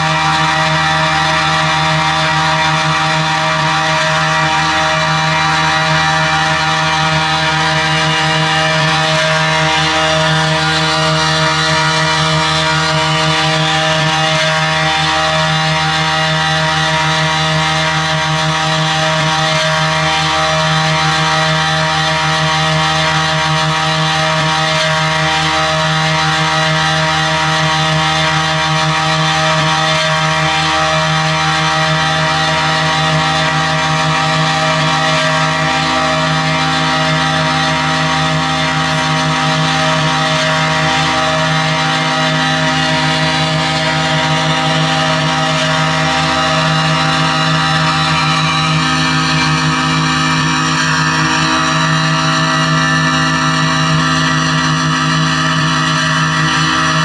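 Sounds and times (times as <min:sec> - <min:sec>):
electronic drone music: 0:00.0 - 0:57.0.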